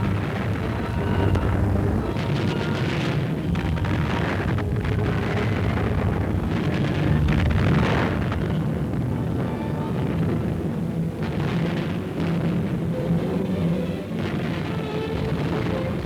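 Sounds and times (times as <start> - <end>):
faint music: 0.0 - 16.0.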